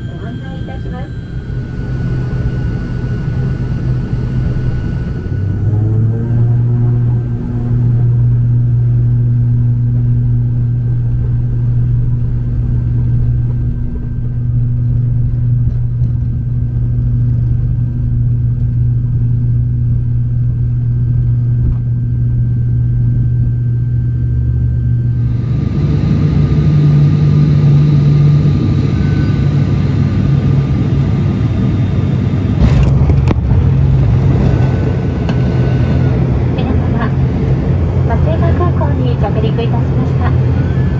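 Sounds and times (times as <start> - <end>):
airliner engines droning in cabin: 0.0 - 40.9.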